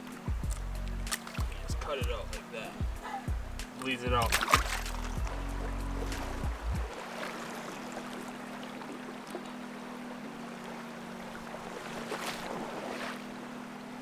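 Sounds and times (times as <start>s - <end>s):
music of sustained low notes: 0.0s - 14.0s
river water rushing: 0.0s - 14.0s.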